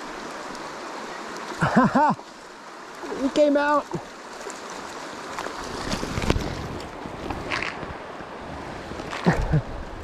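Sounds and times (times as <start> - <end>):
creek water running: 0.0 - 10.0.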